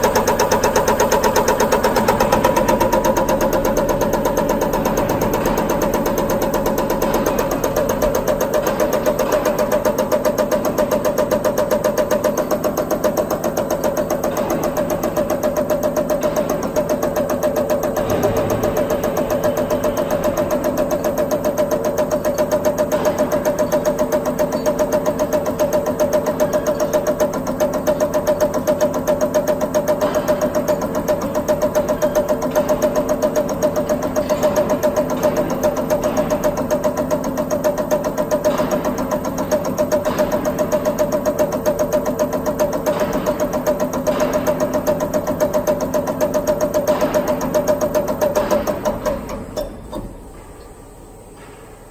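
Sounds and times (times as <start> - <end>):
test bench machine ticking and knocking: 0.0 - 51.9.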